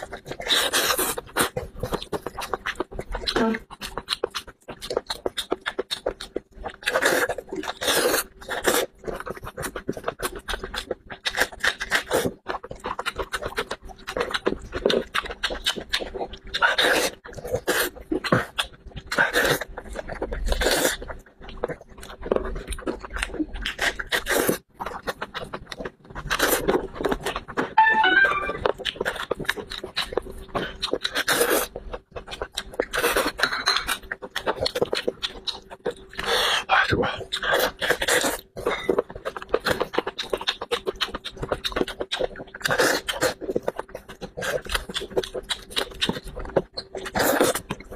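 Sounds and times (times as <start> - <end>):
man chewing and smacking: 0.0 - 47.9.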